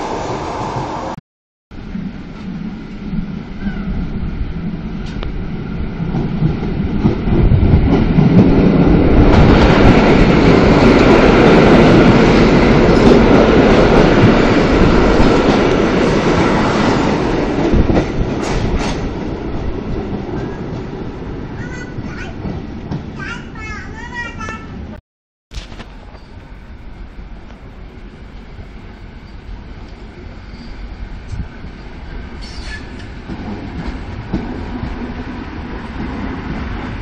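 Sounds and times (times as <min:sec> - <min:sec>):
train wheels rumbling and clacking: 0:01.8 - 0:24.8, 0:25.5 - 0:37.0.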